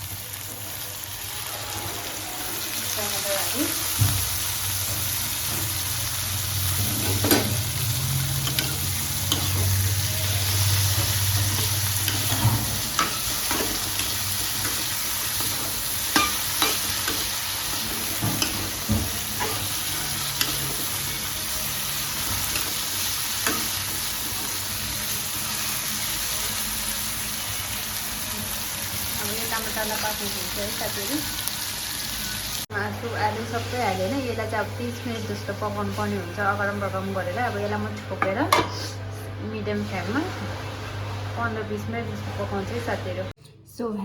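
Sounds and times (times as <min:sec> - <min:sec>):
vegetables sizzling in a pan: 0:00.0 - 0:38.9.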